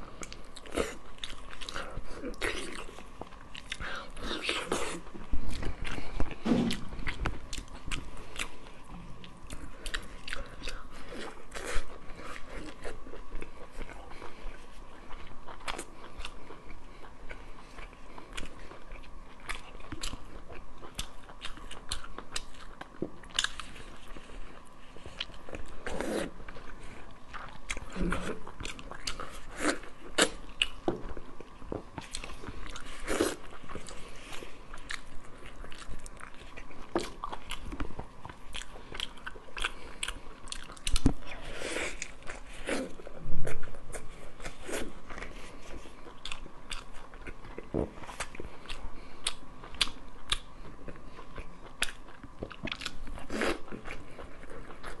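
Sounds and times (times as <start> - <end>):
chewing food: 0.1 - 55.0.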